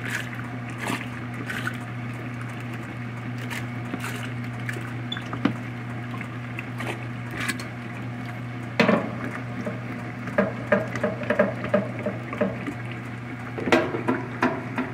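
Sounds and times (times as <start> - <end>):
water sloshing in washing machine tub: 0.0 - 14.9.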